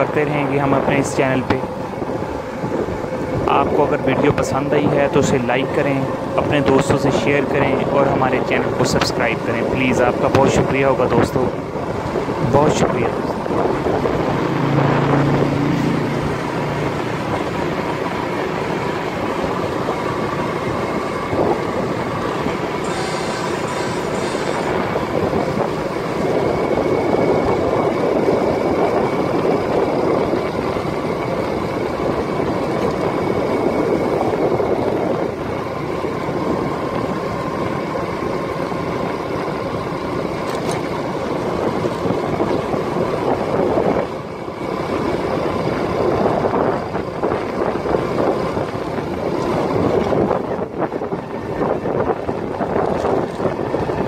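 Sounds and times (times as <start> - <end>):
vehicle engine tyre and wind noise: 0.0 - 54.0.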